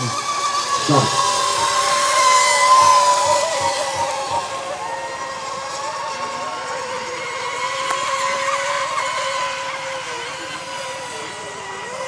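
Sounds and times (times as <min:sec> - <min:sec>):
high-pitched motor whine: 0:00.0 - 0:12.0.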